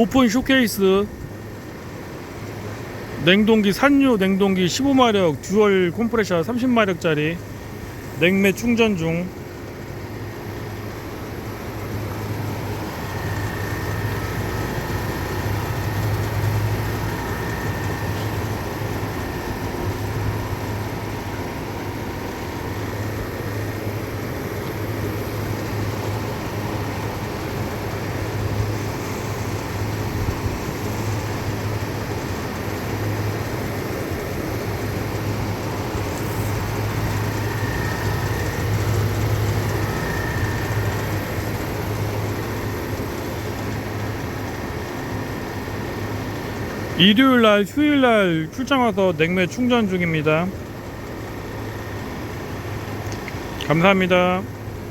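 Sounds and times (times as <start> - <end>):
faint high whine: 0.0 - 54.9
fan noise: 0.0 - 54.9
refrigeration unit humming: 0.0 - 54.9.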